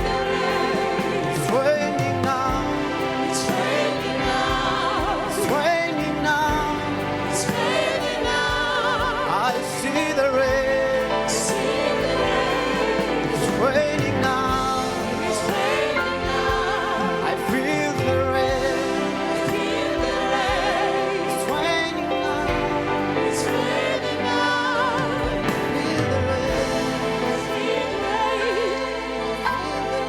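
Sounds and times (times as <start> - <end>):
gospel choir singing: 0.0 - 30.0.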